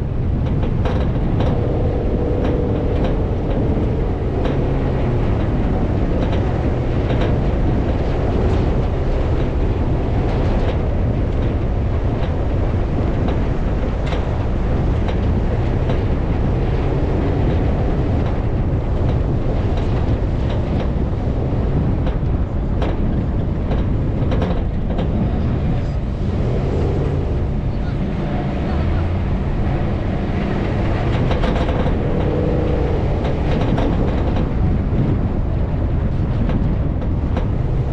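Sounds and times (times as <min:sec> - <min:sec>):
off-road vehicle engine rumble: 0:00.0 - 0:37.9
sharp clicks and rattles: 0:00.0 - 0:37.9.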